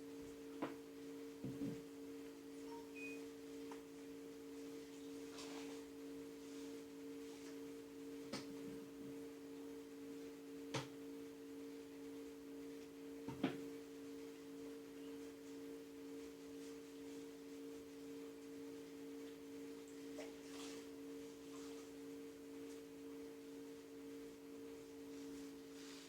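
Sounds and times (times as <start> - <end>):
two-note electrical hum: 0.0 - 26.0.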